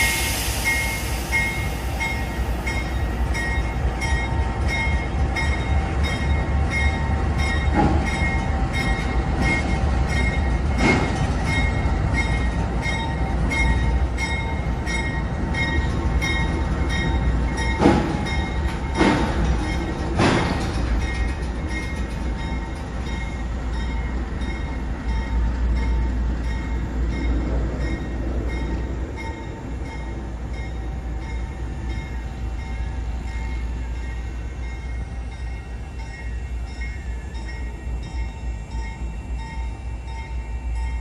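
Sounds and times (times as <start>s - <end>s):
train cars rumbling past: 0.0s - 41.0s.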